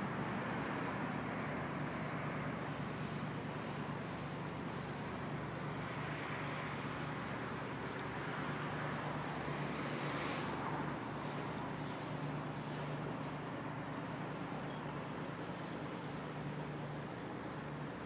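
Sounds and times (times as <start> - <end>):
outboard motor humming: 2.6 - 18.0.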